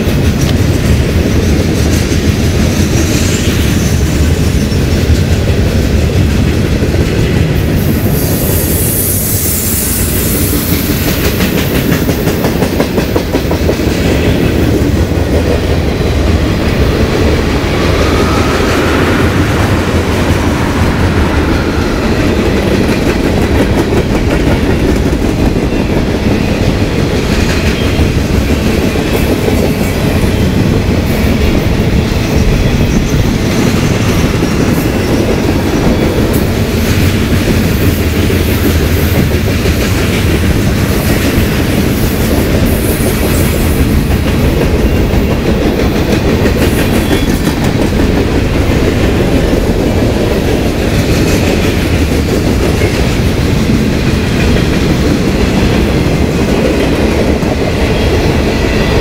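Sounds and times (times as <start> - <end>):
clickety-clack over rail joints: 0.0 - 8.9, 10.1 - 59.0
train wheels rumbling on rail: 0.0 - 59.0.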